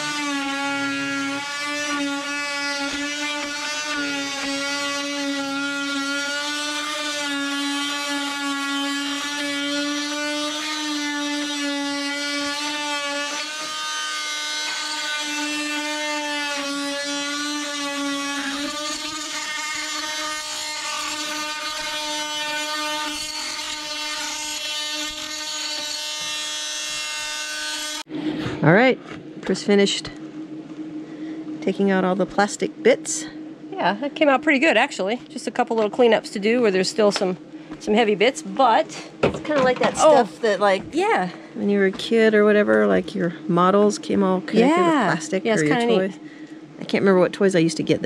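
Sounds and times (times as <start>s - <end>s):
oscillating multi-tool buzzing: 0.0s - 28.1s, 31.0s - 47.9s.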